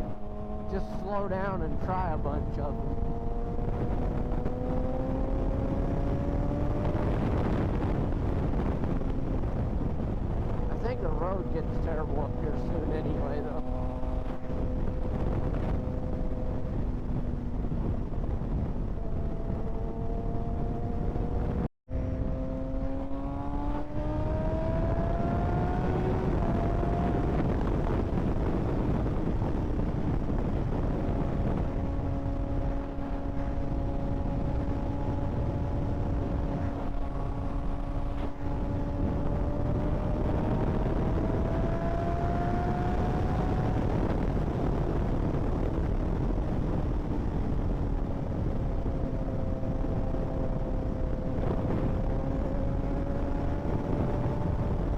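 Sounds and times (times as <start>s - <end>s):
motorcycle engine revving: 0.0s - 54.9s
rush of wind and road noise: 0.0s - 54.9s.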